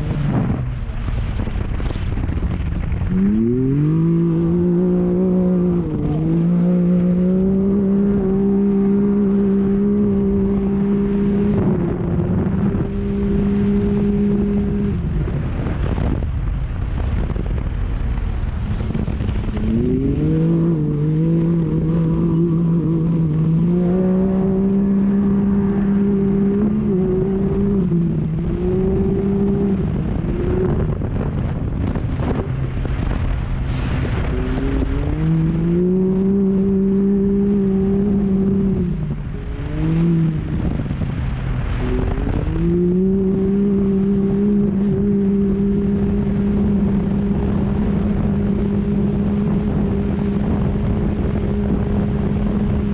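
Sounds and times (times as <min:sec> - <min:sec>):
constant rush of noise: 0:00.0 - 0:52.9
race car engine revving: 0:00.0 - 0:52.9.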